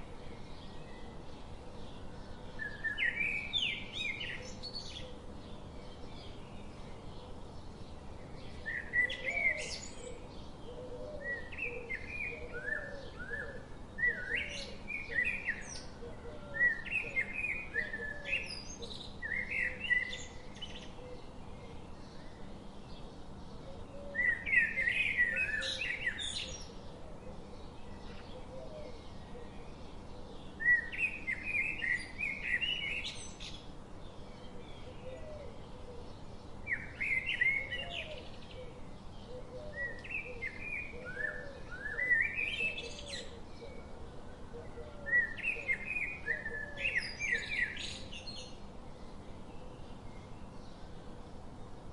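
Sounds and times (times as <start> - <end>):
bird chirping: 0.0 - 51.2
background hiss: 0.0 - 51.9.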